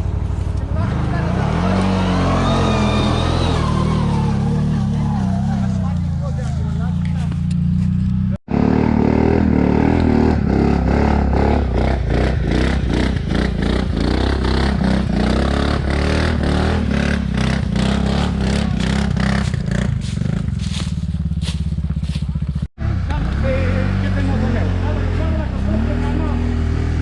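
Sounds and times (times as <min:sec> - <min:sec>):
atv engine running: 0:00.0 - 0:27.0.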